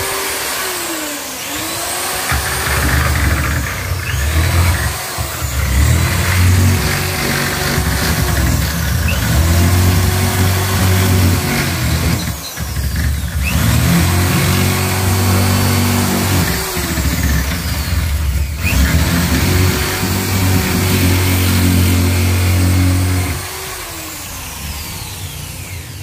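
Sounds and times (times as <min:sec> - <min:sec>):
electric drill boring into wood: 0:00.0 - 0:26.0.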